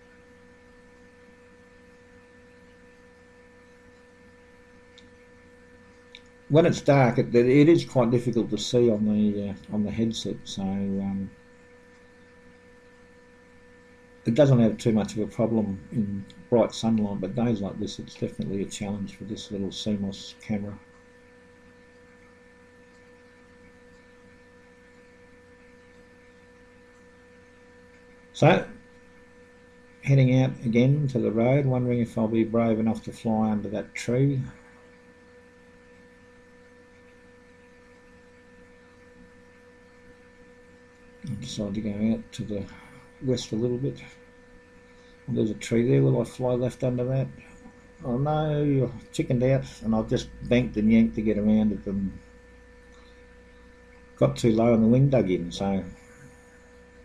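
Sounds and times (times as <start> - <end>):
faint electrical hum: 0.0 - 57.0
low hiss: 0.0 - 57.0.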